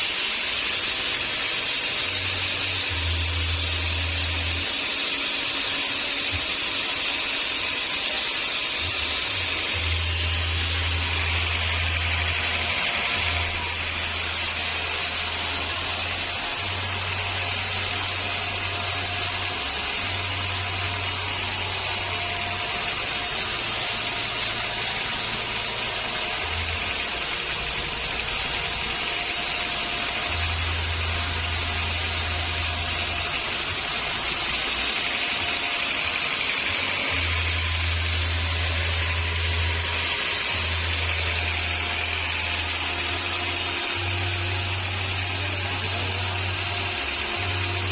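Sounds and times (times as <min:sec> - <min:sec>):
saw whining through wood: 0:00.0 - 0:47.9.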